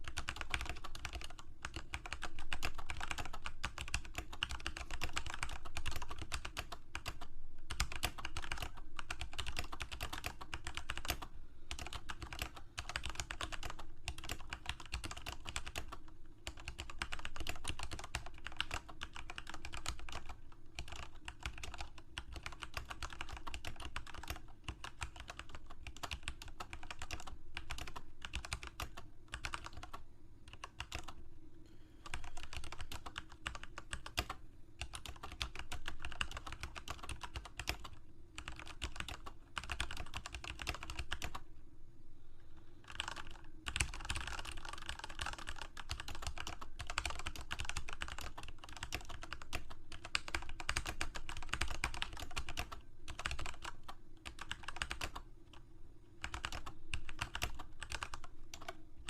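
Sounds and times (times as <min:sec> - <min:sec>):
typing on computer keyboard: 0:00.0 - 0:31.2, 0:32.0 - 0:41.4, 0:42.8 - 0:55.6, 0:56.2 - 0:58.8.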